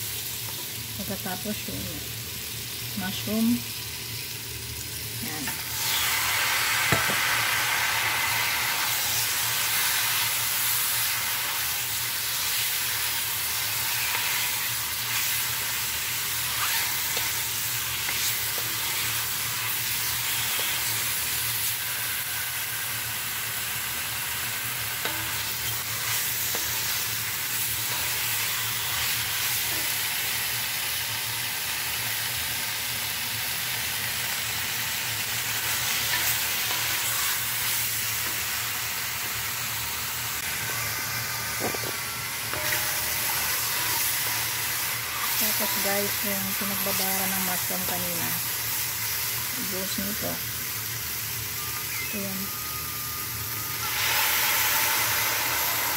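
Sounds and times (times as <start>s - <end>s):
vegetables sizzling in oil: 0.0s - 55.9s.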